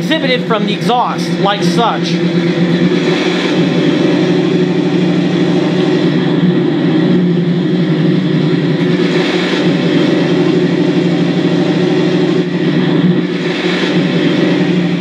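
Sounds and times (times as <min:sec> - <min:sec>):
recorded tank engine sound: 0:00.0 - 0:15.0.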